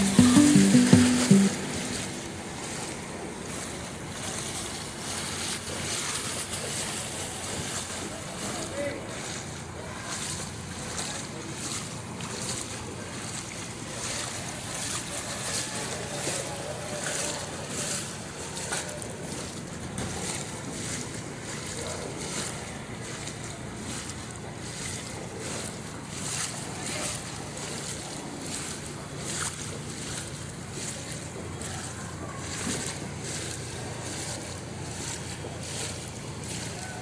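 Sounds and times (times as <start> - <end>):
wading through floodwater: 0.0 - 37.0.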